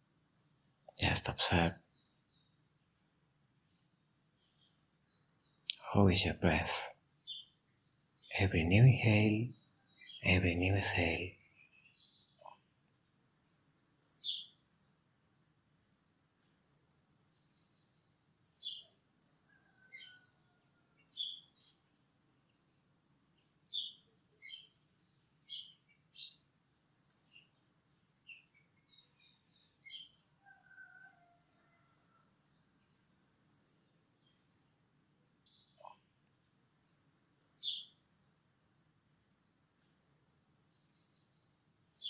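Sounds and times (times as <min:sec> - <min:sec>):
small birds chirping: 0:00.0 - 0:02.6, 0:03.7 - 0:42.0.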